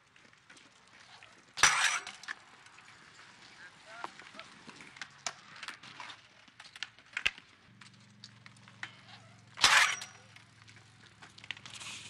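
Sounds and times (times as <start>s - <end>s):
bike clicks and knocks: 0.1s - 12.0s.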